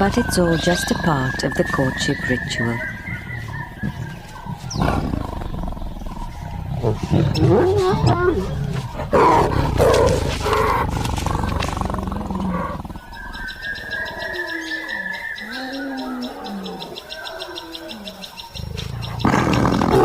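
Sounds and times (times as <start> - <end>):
lions snarling and roaring: 0.0 - 20.0.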